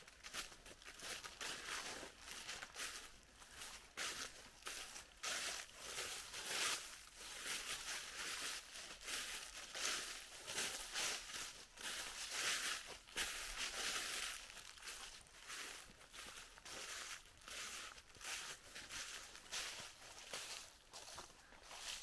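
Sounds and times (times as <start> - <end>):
footsteps crunching on trail: 0.0 - 22.0.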